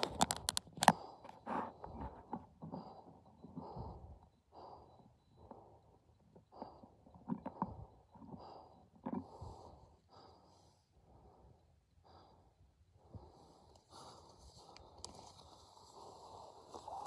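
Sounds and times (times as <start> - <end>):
heavy breathing: 0.2 - 17.0.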